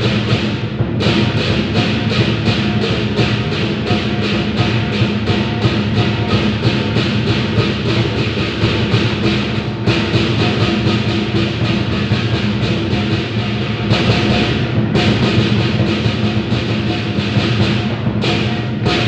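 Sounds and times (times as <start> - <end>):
hand cymbals clashing: 0.0 - 19.0
large drum beating: 0.0 - 19.0.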